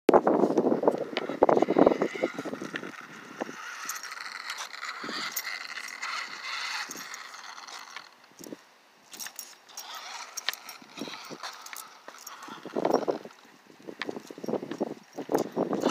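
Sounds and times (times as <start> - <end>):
rc truck whirring: 0.6 - 15.9.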